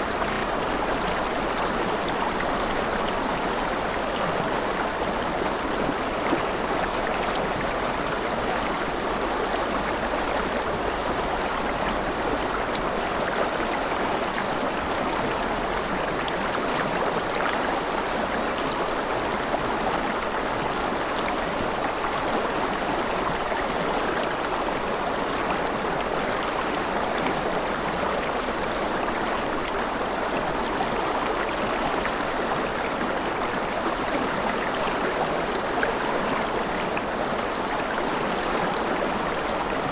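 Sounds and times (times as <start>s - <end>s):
river water flowing and splashing: 0.0s - 39.9s.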